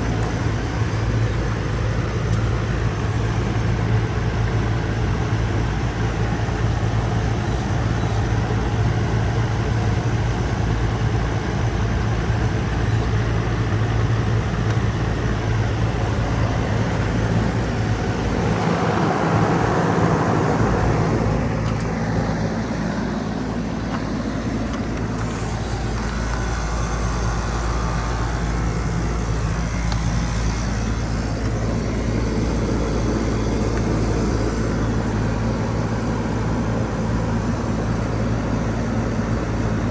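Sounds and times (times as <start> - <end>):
heat pump compressor hum: 0.0 - 39.9.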